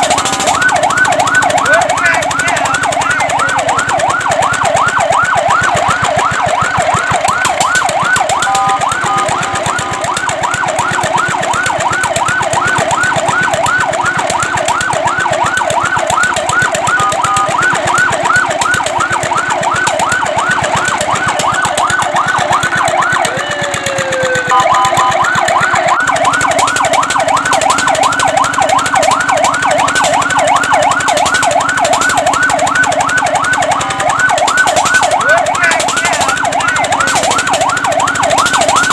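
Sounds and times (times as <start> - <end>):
fire truck siren yelping: 0.0 - 38.9
siren held tones: 0.0 - 38.9.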